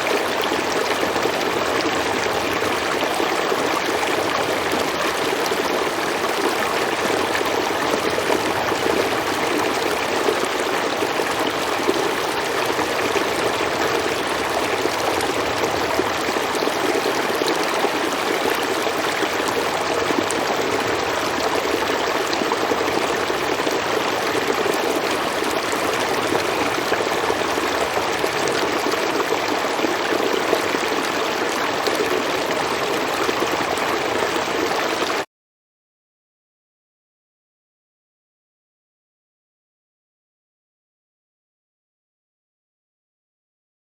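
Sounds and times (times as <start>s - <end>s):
stream rushing and splashing: 0.0s - 35.2s.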